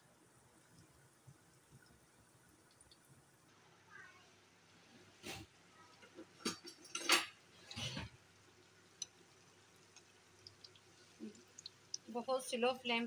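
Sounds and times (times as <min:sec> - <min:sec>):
frying oil popping: 0:00.0 - 0:03.4, 0:05.1 - 0:13.0.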